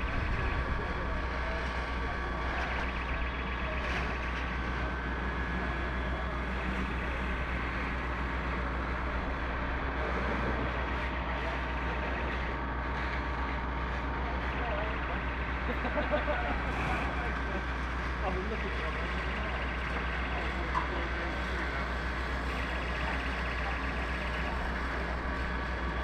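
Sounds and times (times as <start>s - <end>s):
fire engine pump droning: 0.0s - 26.0s.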